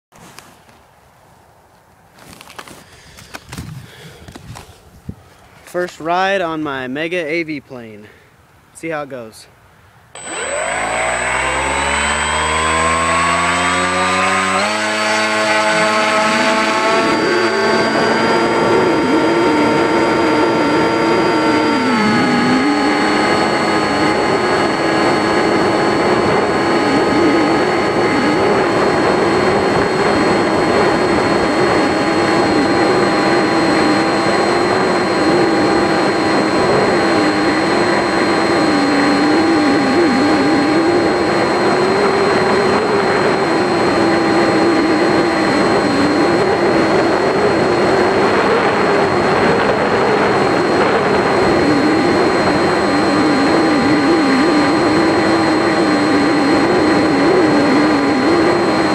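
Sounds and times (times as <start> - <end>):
model plane motor drone: 10.2 - 58.9.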